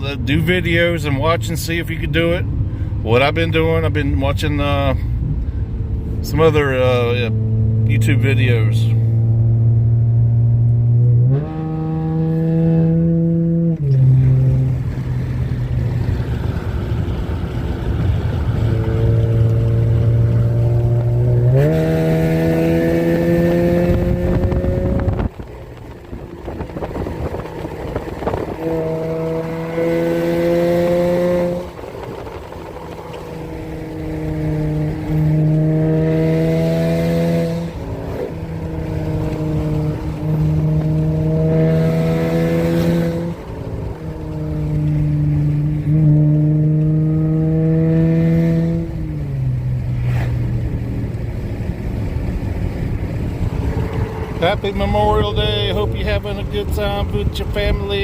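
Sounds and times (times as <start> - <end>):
car engine drone: 0.0 - 58.0.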